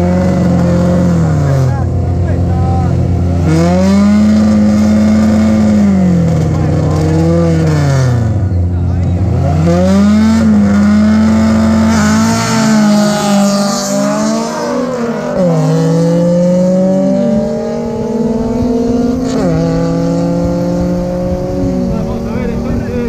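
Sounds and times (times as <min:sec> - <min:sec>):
race car engines accelerating: 0:00.0 - 0:23.0.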